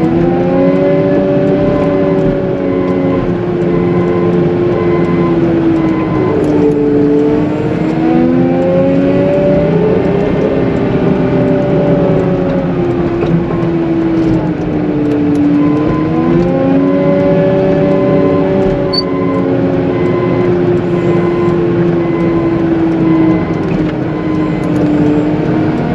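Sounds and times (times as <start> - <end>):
diesel loader engine under load: 0.0 - 25.9.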